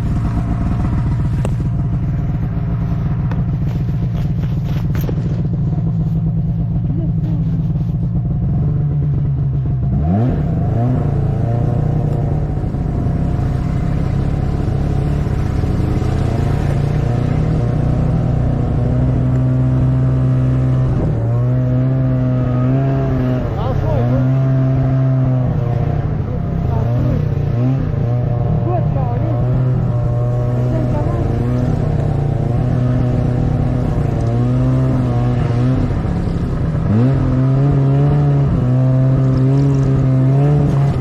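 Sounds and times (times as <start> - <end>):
snowmobile engine running: 0.0 - 41.0.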